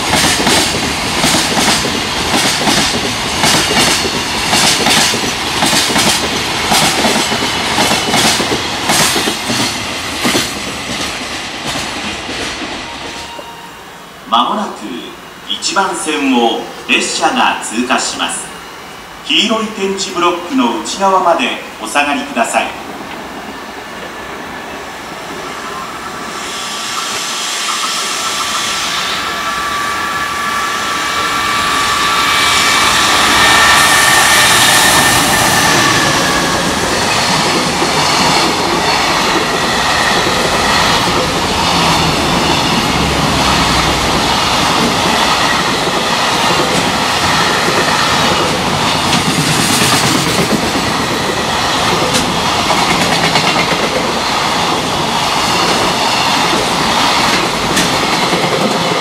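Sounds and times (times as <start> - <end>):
electric locomotive whine: 0.0 - 59.0
freight train rumbling past: 0.0 - 59.0.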